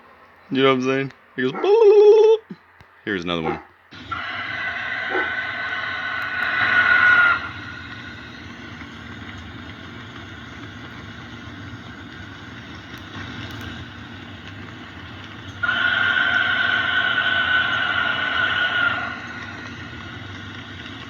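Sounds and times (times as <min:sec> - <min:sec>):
shrill steady drone: 0:03.4 - 0:21.0.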